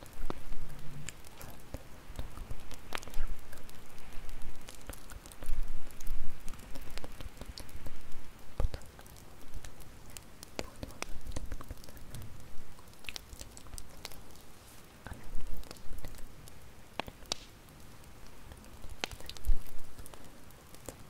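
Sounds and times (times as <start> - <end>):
low rumble of burning: 0.0 - 21.0
sharp pops and snaps: 0.0 - 21.0
wood fire crackling: 0.0 - 21.0.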